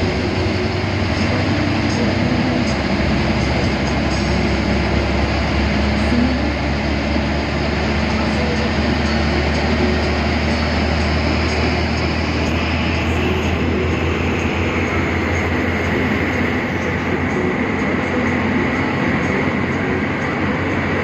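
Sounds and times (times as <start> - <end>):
bus engine hum: 0.0 - 21.0
road and wind noise: 0.0 - 21.0.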